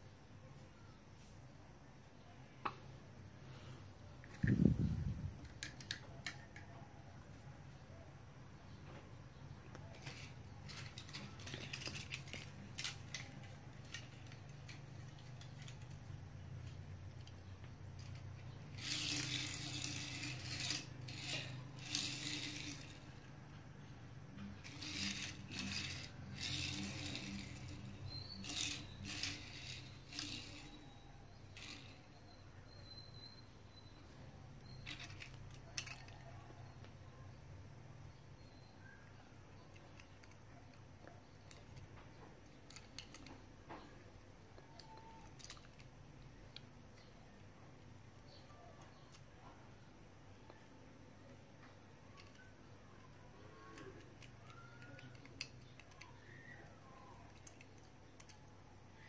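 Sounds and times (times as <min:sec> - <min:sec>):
toy cars rolling on tiles: 0:03.5 - 0:07.9, 0:09.7 - 0:37.2, 0:38.8 - 0:50.0, 0:51.2 - 0:59.0.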